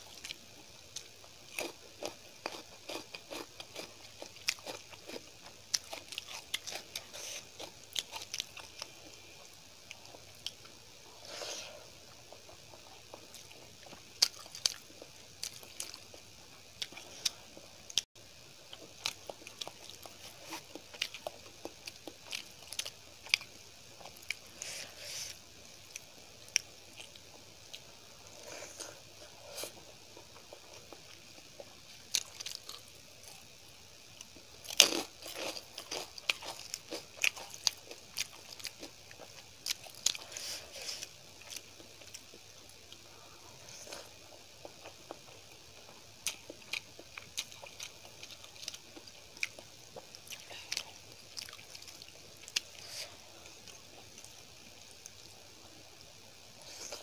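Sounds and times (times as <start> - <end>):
crunching and chewing: 0.0 - 18.0, 18.7 - 33.5, 34.1 - 55.3.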